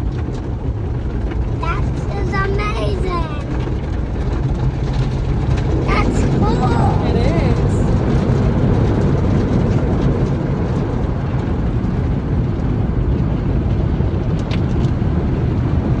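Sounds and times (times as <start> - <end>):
car wash low rumble: 0.0 - 16.0.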